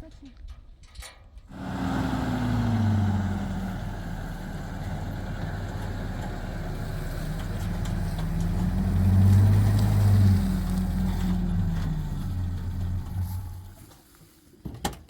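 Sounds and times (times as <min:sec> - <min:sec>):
engine running: 0:01.5 - 0:13.9.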